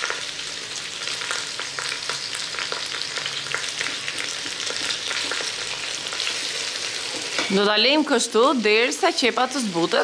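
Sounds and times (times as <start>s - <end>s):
meat and onion sizzling in pot: 0.0s - 10.0s.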